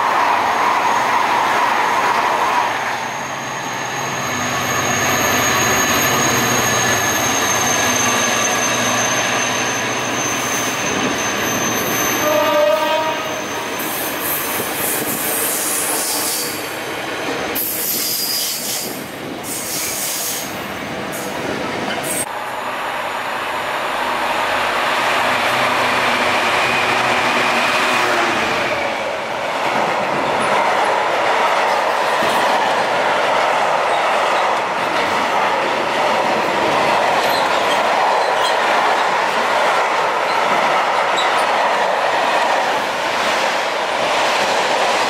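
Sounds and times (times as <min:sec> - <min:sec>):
diesel locomotive engine: 0:00.0 - 0:45.0.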